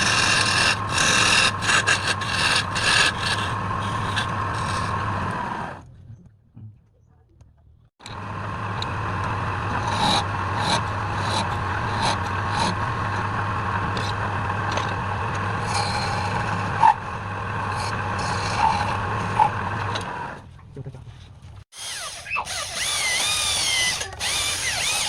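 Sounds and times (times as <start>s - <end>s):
lathe motor hum: 0.0s - 5.8s, 8.0s - 20.4s, 22.8s - 25.0s
turning tool scraping wood: 0.0s - 5.8s, 9.2s - 20.4s, 21.8s - 25.0s.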